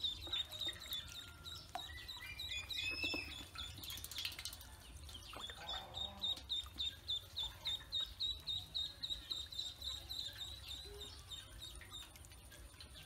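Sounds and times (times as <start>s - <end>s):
ducklings peeping: 0.0s - 4.3s, 5.0s - 13.0s.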